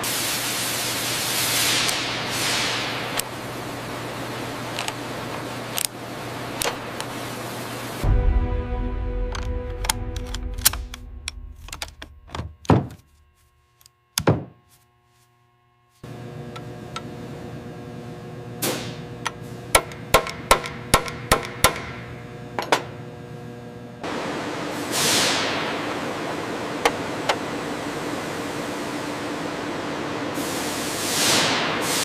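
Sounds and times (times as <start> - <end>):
steady hum: 0.0 - 30.9.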